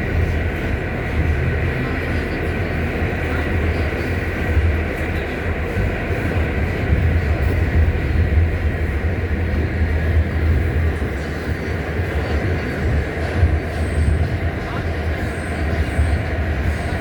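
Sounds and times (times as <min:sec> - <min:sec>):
subway train rumbling on track: 0:00.0 - 0:17.0.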